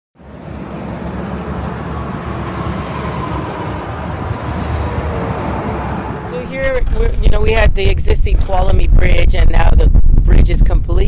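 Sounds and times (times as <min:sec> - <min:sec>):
freeway traffic rush: 0:00.2 - 0:10.2.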